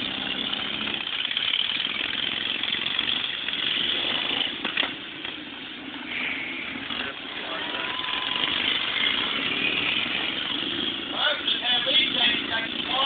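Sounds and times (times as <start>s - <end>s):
racing lawn mower engines: 0.0s - 13.0s.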